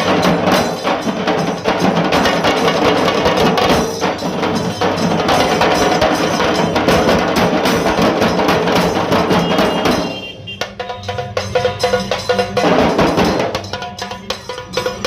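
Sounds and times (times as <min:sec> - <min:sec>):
dhol beats: 0:00.0 - 0:15.0.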